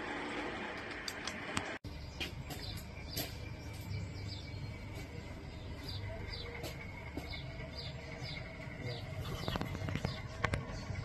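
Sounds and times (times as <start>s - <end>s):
low steady rumble: 0.0s - 11.0s
small birds chirping: 1.8s - 11.0s.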